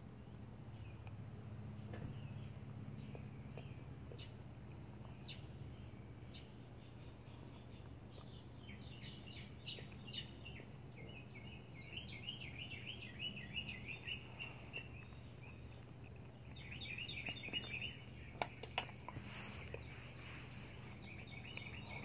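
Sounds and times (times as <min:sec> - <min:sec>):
songbirds chirping: 0:00.0 - 0:22.0
steady low hum: 0:00.0 - 0:22.0.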